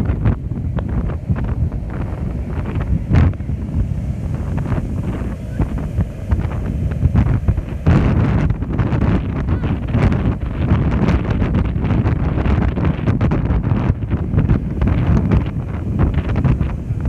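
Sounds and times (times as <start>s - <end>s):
sea waves washing in: 0.0s - 17.0s
wind buffeting the microphone: 0.0s - 17.0s.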